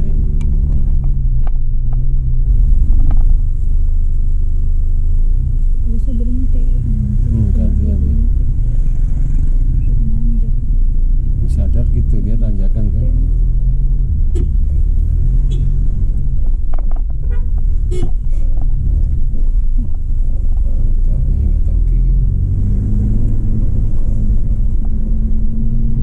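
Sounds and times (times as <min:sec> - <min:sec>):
car engine from inside cabin: 0:00.0 - 0:26.0
road rumble: 0:00.0 - 0:26.0.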